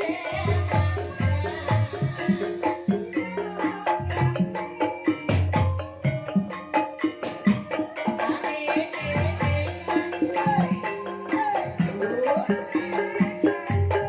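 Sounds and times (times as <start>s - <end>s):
struck tuned percussion: 0.0s - 14.0s.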